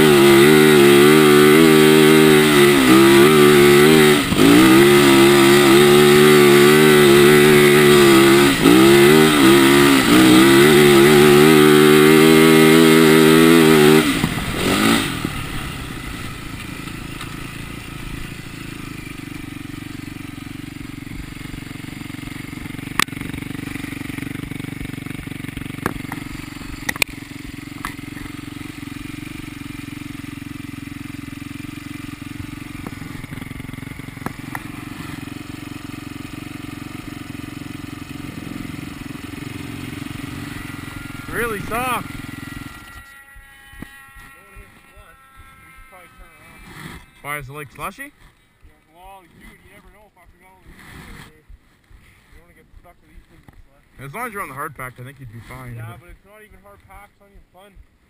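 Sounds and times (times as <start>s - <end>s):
dirt bike engine revving and idling: 0.0s - 58.0s.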